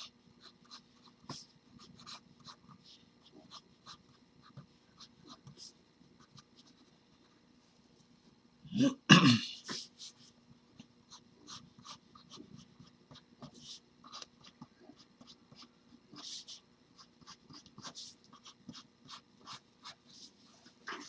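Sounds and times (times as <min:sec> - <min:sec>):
pencil scratching on paper: 0:00.0 - 0:07.0, 0:09.6 - 0:21.0.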